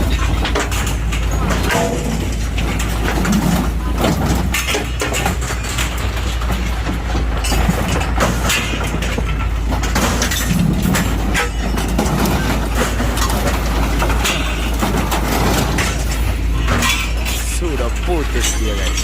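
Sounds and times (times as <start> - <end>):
diesel engine under load: 0.0 - 19.0
metal cracking and creaking: 0.0 - 19.0.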